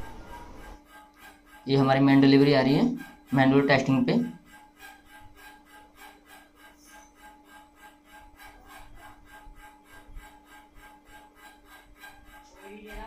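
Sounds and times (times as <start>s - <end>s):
pump test bench pulsing hum: 0.0s - 13.0s.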